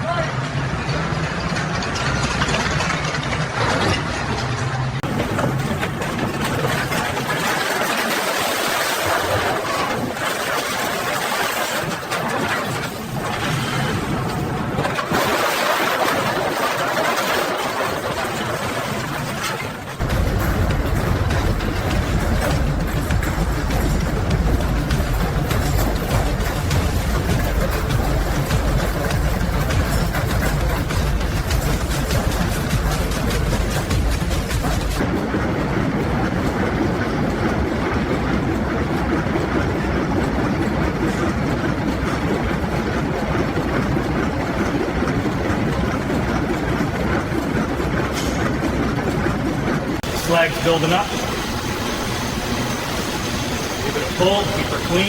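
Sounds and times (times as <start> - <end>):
heavy mechanical rumble with clatter: 0.0 - 55.0.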